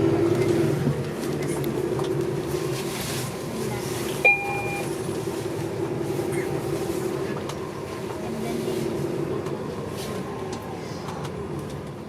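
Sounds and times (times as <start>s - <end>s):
bus motor drone: 0.0s - 12.0s.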